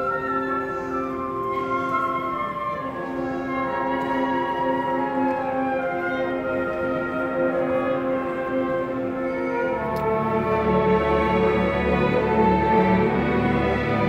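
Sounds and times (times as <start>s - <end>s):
orchestra playing long held notes: 0.0s - 14.0s.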